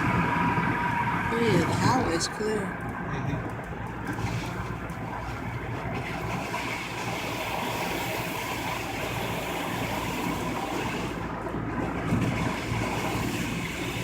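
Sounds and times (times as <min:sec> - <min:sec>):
car road noise: 0:00.0 - 0:14.0.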